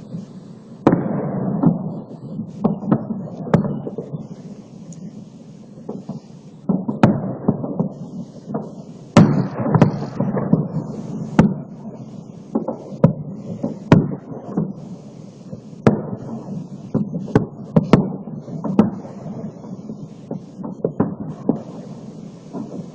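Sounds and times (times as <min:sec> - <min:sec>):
fireworks bangs with rolling echo: 0:00.0 - 0:22.9.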